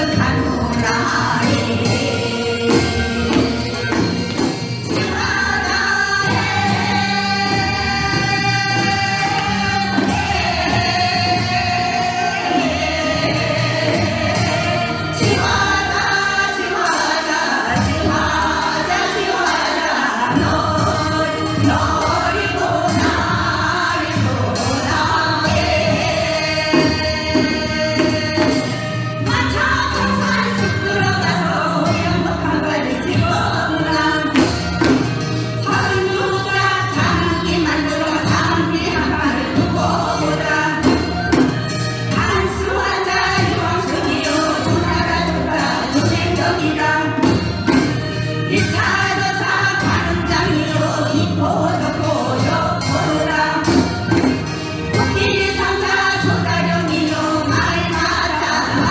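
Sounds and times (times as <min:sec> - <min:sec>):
steady drum beat: 0:00.0 - 0:58.0
group singing folk song: 0:00.0 - 0:58.9.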